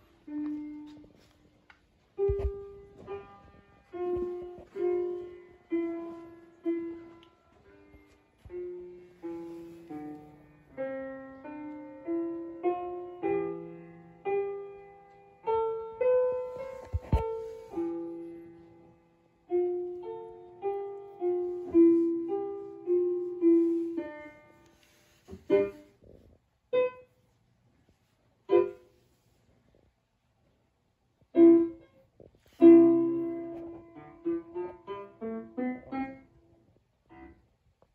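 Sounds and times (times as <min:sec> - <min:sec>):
piano music: 0:02.1 - 0:26.0, 0:26.7 - 0:27.2, 0:28.5 - 0:29.0, 0:31.3 - 0:37.5.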